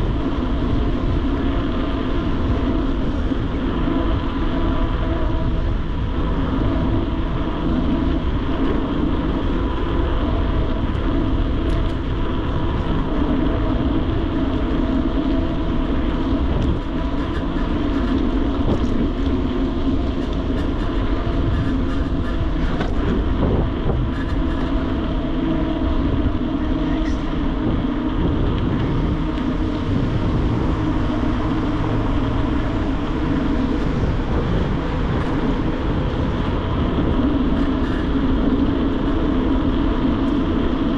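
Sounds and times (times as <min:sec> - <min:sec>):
bicycle tyres rolling on road: 0:00.0 - 0:40.9.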